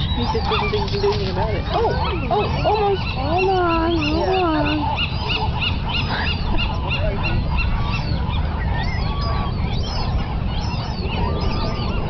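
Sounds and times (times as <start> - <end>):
gulls calling: 0.0 - 12.0
steady low rumble: 0.0 - 12.0.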